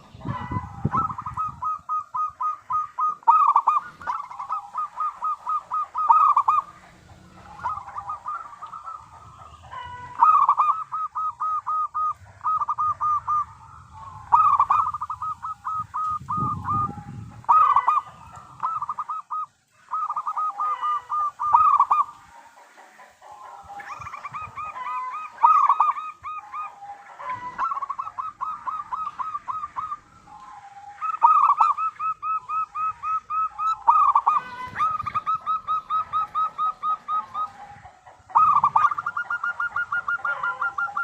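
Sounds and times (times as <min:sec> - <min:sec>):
dove cooing: 0:00.0 - 0:41.0.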